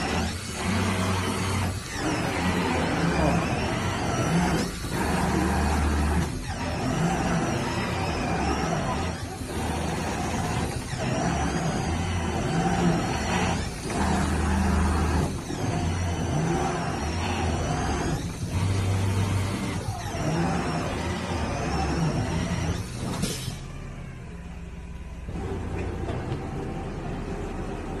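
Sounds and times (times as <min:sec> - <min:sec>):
cutting table machine hum: 0:00.0 - 0:23.3.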